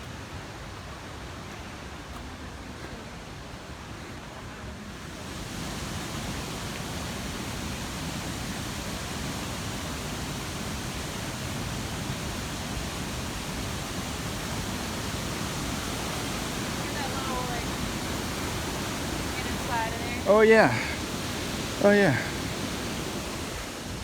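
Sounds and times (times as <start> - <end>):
cascading mountain water: 0.0 - 24.0.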